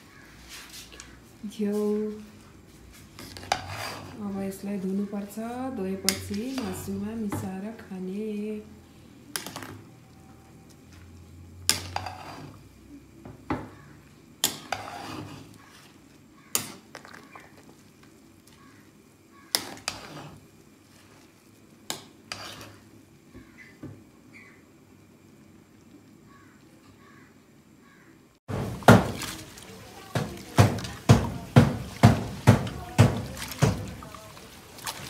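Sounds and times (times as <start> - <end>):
faint sizzle of cooking: 0.0 - 35.0.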